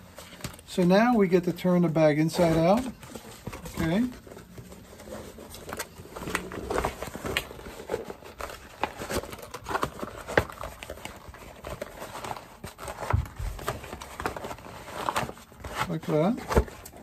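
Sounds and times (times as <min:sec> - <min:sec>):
bag material rustling and creasing: 0:00.0 - 0:17.0.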